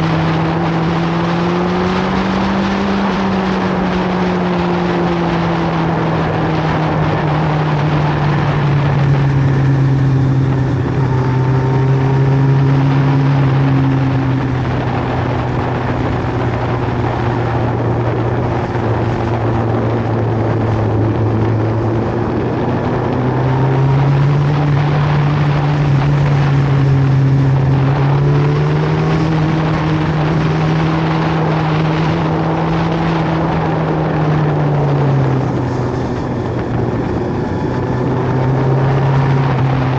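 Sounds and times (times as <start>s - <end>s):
motorcycle engines running: 0.0s - 39.9s
wind and road rush: 0.0s - 39.9s.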